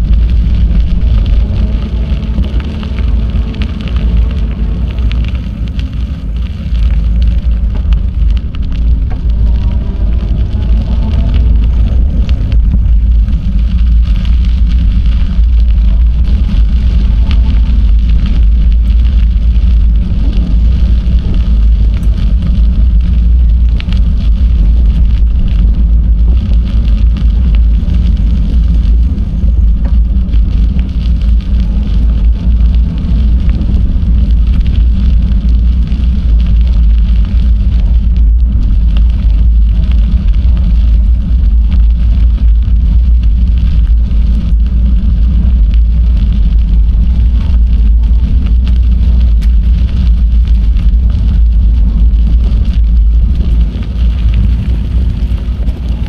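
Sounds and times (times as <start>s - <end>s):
bicycle tyre rolling noise: 0.0s - 56.0s
wind rumble on microphone: 0.0s - 56.0s.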